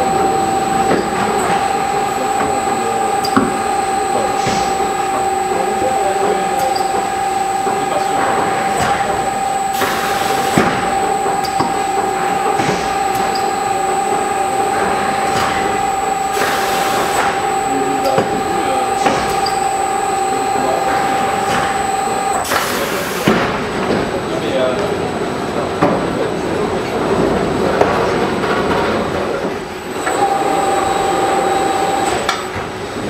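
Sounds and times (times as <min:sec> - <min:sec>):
wrapping machine whine: 0:00.0 - 0:33.0.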